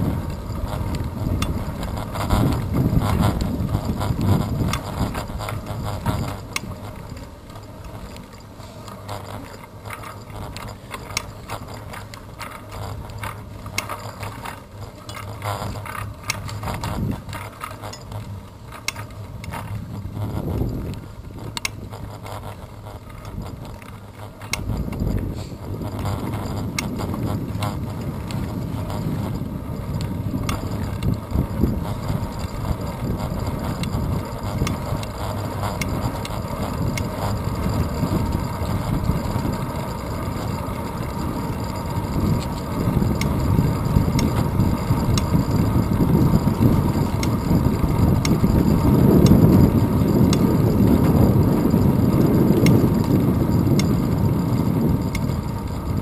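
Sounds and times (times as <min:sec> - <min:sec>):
small rattles over bumps: 0:00.0 - 0:56.0
tyre and road rumble: 0:00.0 - 0:56.0
wind buffeting camera: 0:00.0 - 0:56.0.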